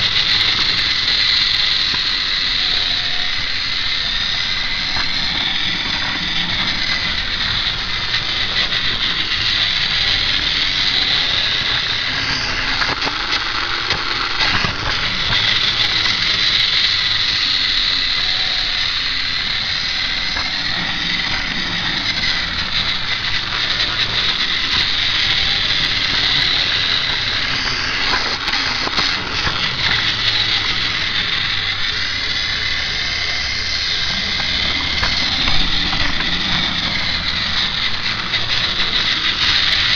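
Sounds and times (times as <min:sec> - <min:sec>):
toy train motor whining: 0:00.0 - 0:39.9.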